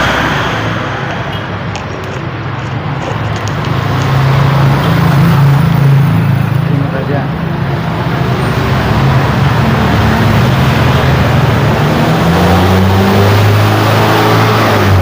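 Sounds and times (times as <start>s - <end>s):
tyre hiss of passing vehicles: 0.0s - 15.0s
vehicle engine drone: 0.0s - 15.0s.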